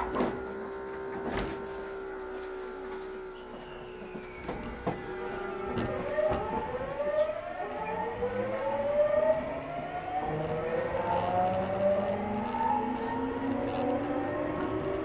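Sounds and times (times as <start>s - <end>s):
electric train inverter whine: 0.0s - 15.0s
train wheels running noise: 0.0s - 15.0s.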